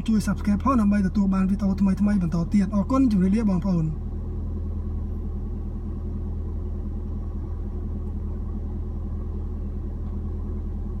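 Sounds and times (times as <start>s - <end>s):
steady low cabin hum: 0.0s - 11.0s.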